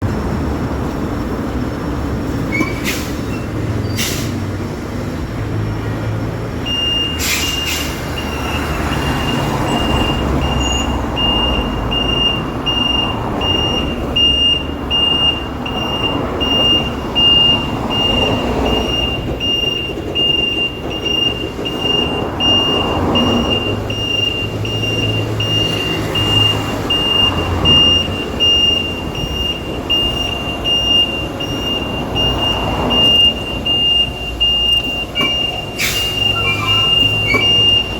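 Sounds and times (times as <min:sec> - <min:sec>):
truck engine rumbling: 0:00.0 - 0:37.9
truck reversing alarm beeps: 0:06.5 - 0:37.9.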